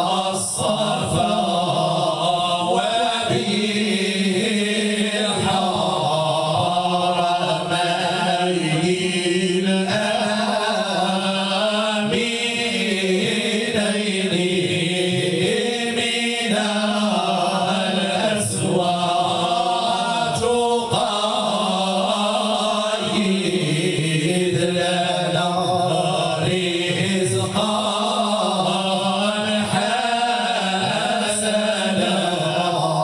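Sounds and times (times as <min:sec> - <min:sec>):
men chanting in unison: 0:00.0 - 0:33.0.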